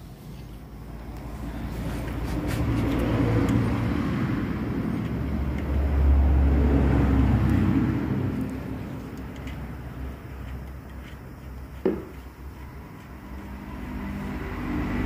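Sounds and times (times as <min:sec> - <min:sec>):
vehicle engine passing by: 0:00.9 - 0:11.2, 0:12.5 - 0:15.0.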